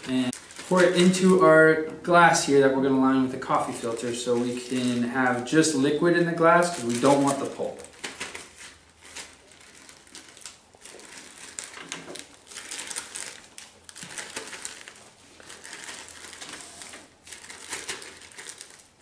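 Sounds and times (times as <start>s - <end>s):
plastic bag crinkling: 0.0s - 1.7s, 2.4s - 19.0s.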